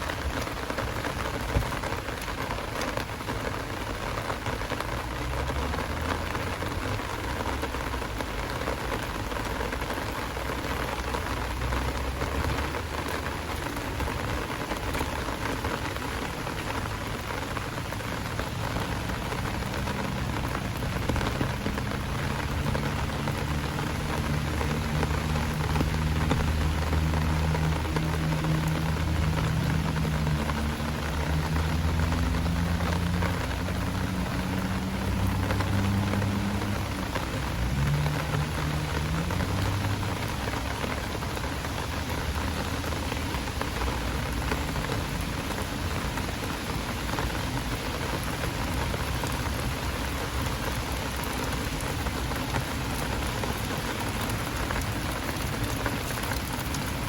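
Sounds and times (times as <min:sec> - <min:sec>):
heavy rain: 0:00.0 - 0:57.0
low engine hum: 0:00.0 - 0:57.0.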